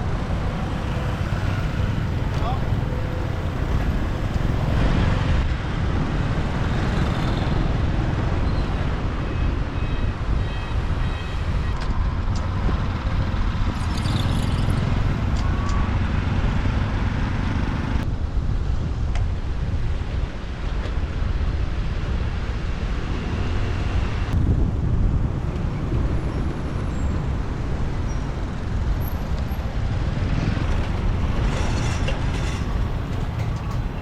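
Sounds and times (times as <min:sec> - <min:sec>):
motorbike road noise: 0:00.0 - 0:34.0
passing vehicles: 0:00.0 - 0:34.0.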